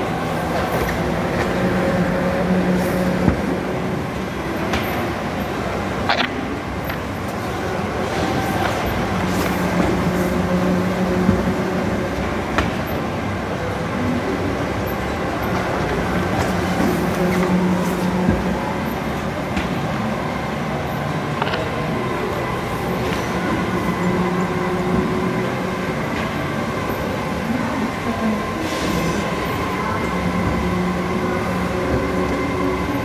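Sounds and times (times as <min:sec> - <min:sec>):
laminator rollers rumbling: 0:00.0 - 0:33.0.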